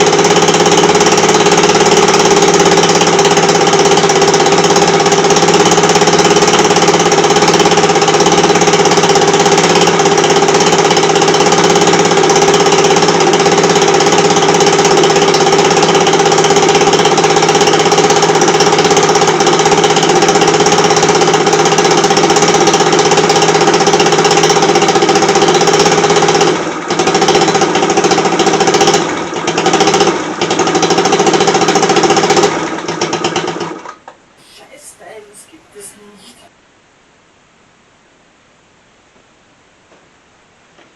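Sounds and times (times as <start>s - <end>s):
scooter engine running and stalling: 0.0s - 34.1s.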